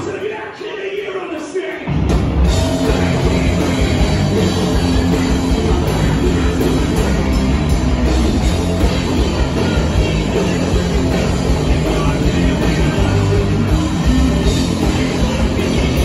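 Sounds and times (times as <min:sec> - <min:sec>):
punk band playing live: 0:00.0 - 0:16.0.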